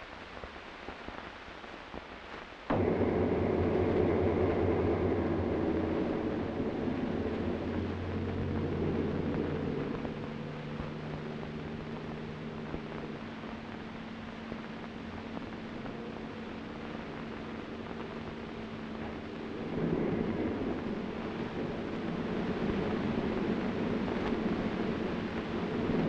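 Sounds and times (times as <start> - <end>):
tugboat engine running: 2.7 - 26.0.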